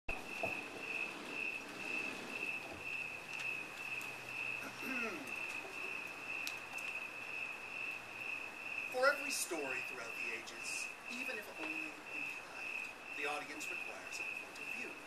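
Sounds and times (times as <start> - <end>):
cricket chirping: 0.1 - 15.0.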